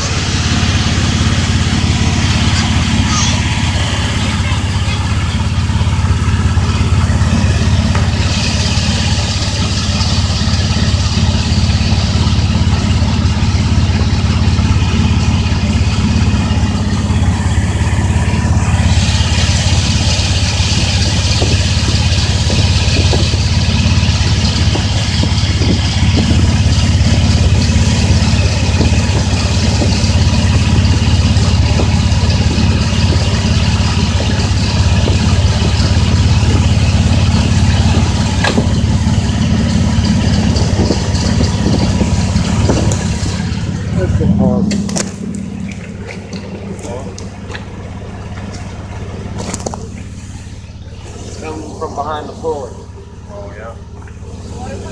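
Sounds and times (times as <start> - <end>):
truck engine idling: 0.0 - 54.9.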